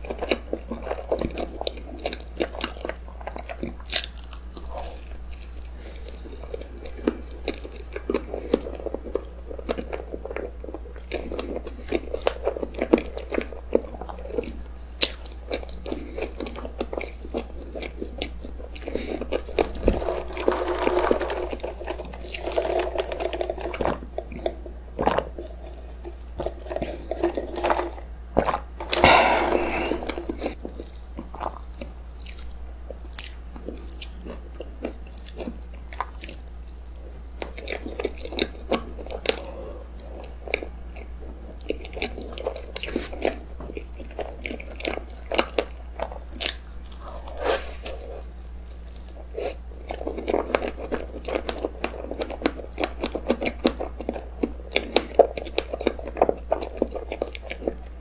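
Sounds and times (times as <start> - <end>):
close chewing and mouth sounds: 0.0 - 20.4, 21.2 - 29.1, 29.7 - 58.0.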